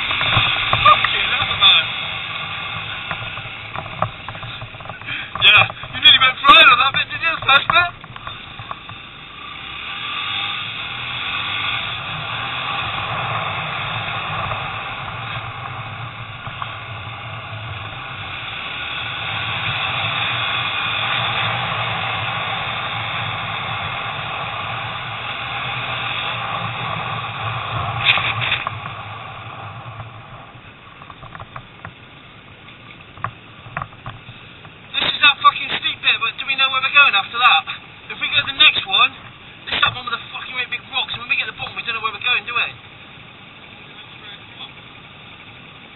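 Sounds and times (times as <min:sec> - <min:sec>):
low engine hum: 0:00.0 - 0:45.9.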